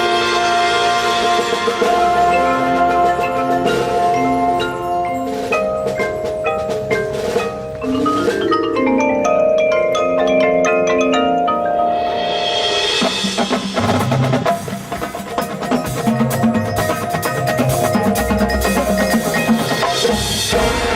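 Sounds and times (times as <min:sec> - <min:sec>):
heavy drum beats: 0:00.0 - 0:10.3, 0:12.4 - 0:20.9
mallet percussion: 0:00.0 - 0:20.9
marching band playing: 0:00.0 - 0:20.9.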